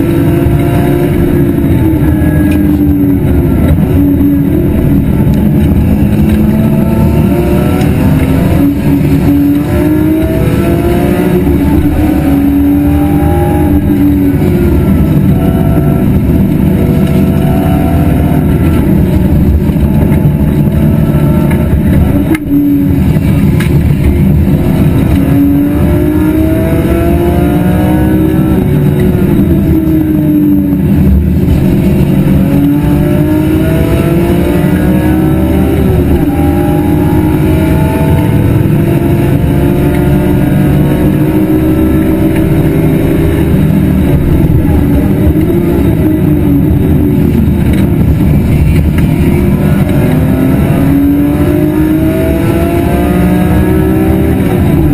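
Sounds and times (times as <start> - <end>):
low rush: 0.0 - 54.9
racing car engine revving: 0.0 - 54.9.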